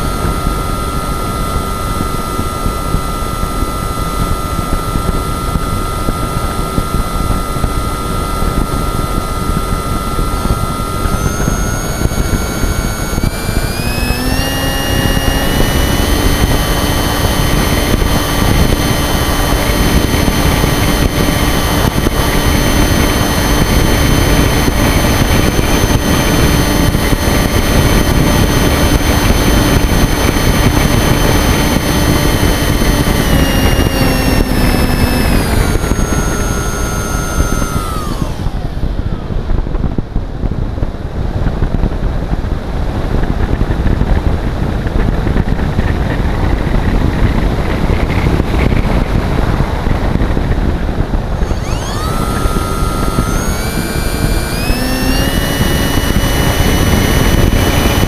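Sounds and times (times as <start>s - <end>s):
model aeroplane motor whine: 0.0s - 58.0s
wind rush on microphone: 0.0s - 58.0s.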